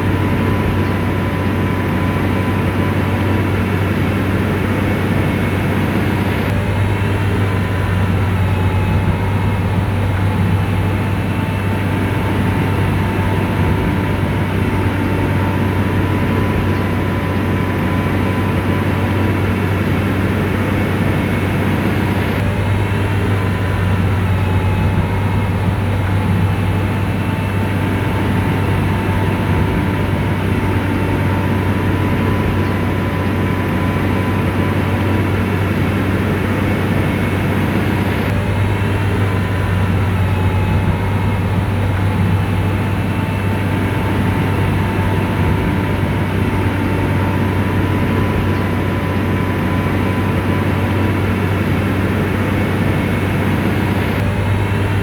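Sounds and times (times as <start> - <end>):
diesel engine droning under load: 0.0 - 55.0
faint steady whine: 0.0 - 55.0.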